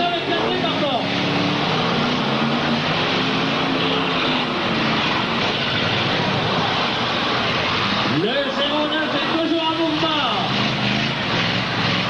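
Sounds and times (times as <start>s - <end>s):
car engines revving hard: 0.0s - 12.0s.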